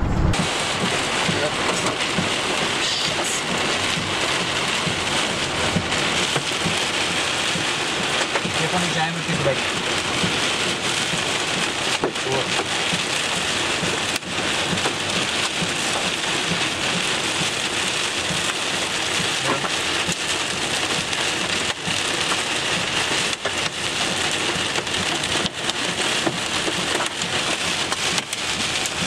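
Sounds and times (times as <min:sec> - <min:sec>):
heavy rain on car roof: 0:00.3 - 0:29.0.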